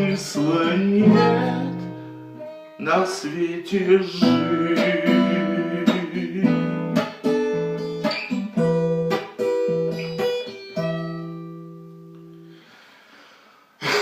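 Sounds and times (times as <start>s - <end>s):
acoustic guitar strumming chords: 0.0s - 12.6s.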